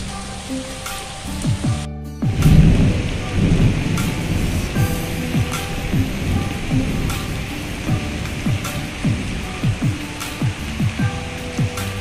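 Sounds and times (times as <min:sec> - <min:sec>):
heavy rain hissing: 0:00.0 - 0:12.0
deep drum beat: 0:01.0 - 0:12.0.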